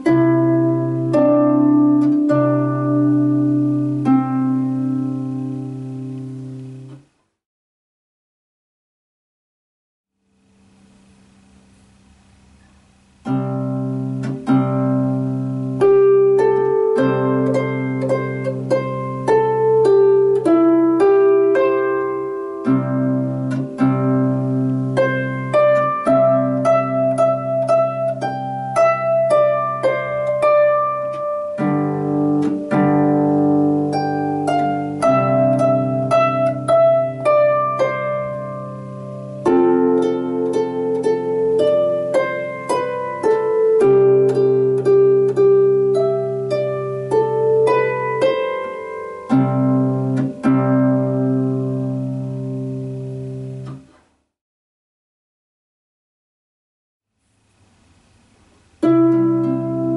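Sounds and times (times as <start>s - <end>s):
harp plucked melody: 0.0s - 7.0s, 13.2s - 53.9s, 58.8s - 59.9s.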